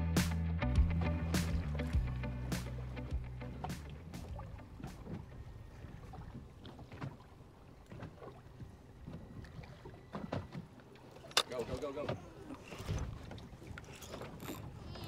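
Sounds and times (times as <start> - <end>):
water lapping against boat hull: 1.4 - 15.0.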